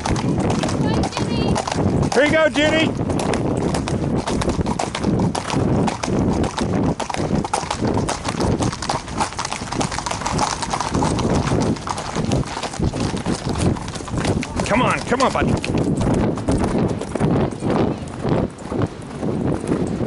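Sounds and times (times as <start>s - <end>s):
hooves on paved road: 0.0s - 20.0s.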